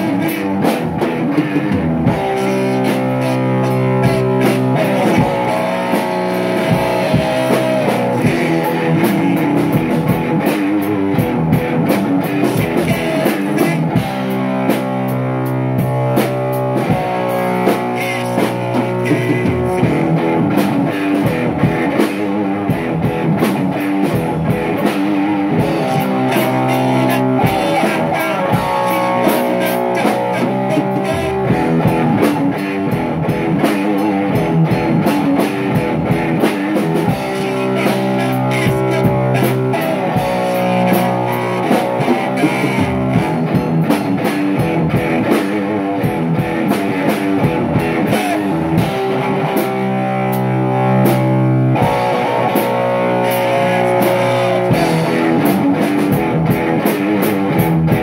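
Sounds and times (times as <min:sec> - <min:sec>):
drum kit steady beat: 0:00.0 - 0:58.0
rock guitar chords: 0:00.0 - 0:58.0.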